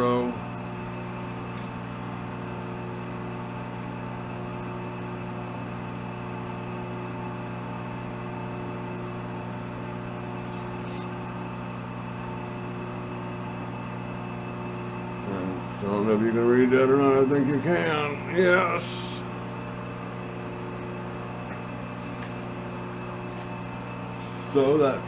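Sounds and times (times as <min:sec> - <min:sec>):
electric motor hum: 0:00.0 - 0:25.0.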